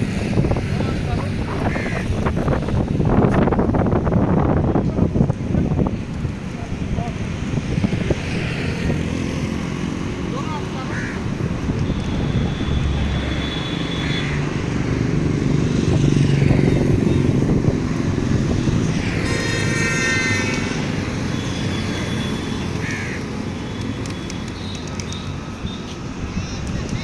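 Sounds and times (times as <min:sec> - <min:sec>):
motor traffic rumble: 0:00.0 - 0:27.0.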